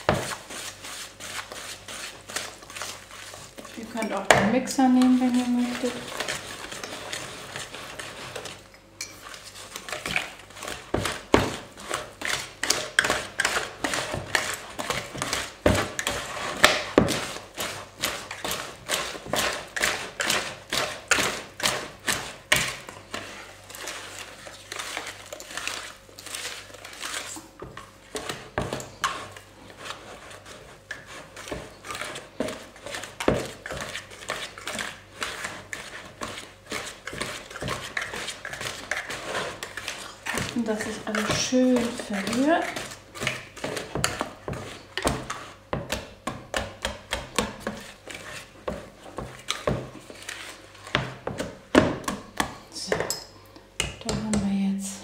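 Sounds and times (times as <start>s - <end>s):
batter stirred in plastic bowl: 0.0s - 55.0s.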